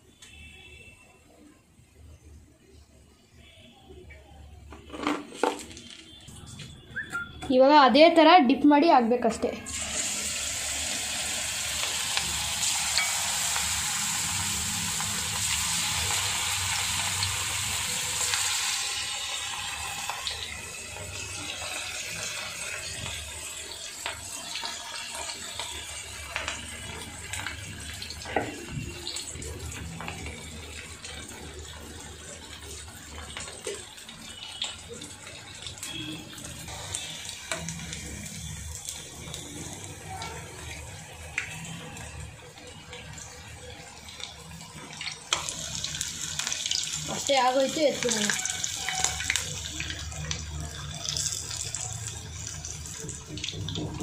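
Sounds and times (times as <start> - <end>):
batter sizzling in hot oil: 9.6 - 54.0
oil bubbling and crackling: 9.6 - 54.0.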